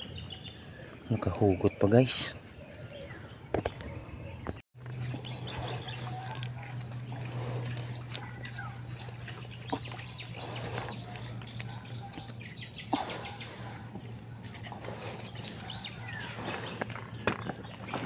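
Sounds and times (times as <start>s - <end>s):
birds chirping: 0.0s - 18.0s
insects calling: 0.0s - 18.0s.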